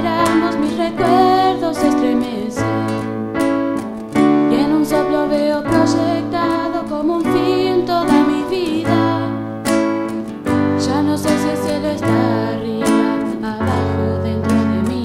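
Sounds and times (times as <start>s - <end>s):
woman singing with vibrato: 0.0s - 3.2s, 4.4s - 9.7s, 10.7s - 15.0s
electric keyboard chords: 0.0s - 15.0s
strummed acoustic guitar: 0.0s - 15.0s.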